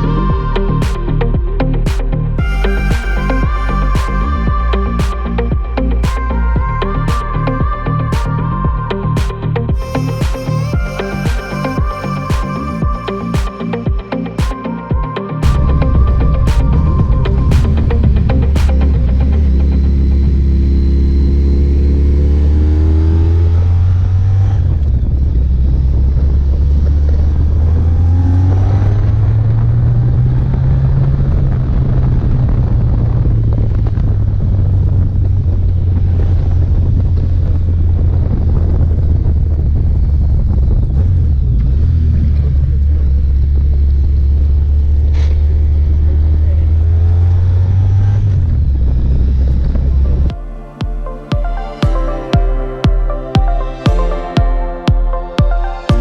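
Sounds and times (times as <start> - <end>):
wind noise: 0.0 - 50.4.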